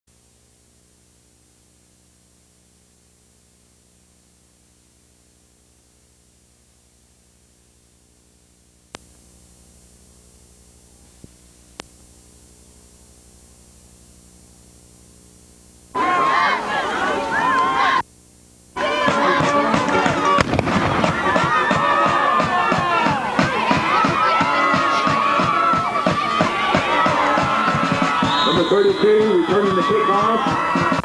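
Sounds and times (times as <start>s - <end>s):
tape hiss and electrical hum: 0.1s - 31.0s.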